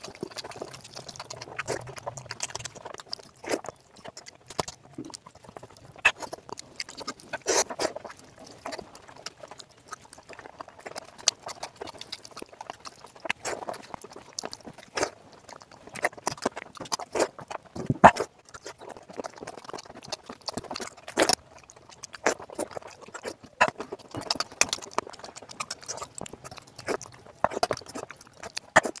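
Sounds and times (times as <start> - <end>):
chewing and lip smacking: 0.0 - 29.0.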